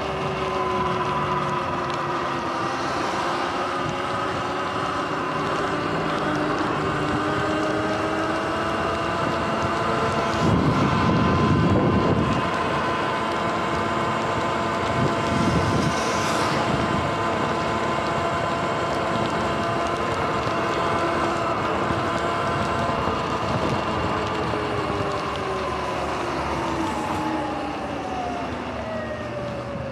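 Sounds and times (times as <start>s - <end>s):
tyre hiss on wet pavement: 0.0s - 27.4s
electric motor whining: 0.0s - 28.5s
wind buffeting microphone: 0.0s - 29.9s.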